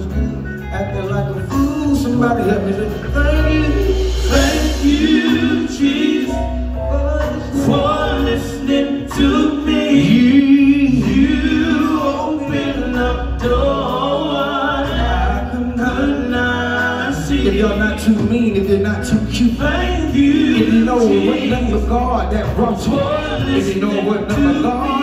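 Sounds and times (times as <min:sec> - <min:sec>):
bass guitar: 0:00.0 - 0:25.0
live band: 0:00.0 - 0:25.0
men singing gospel song: 0:00.0 - 0:25.0.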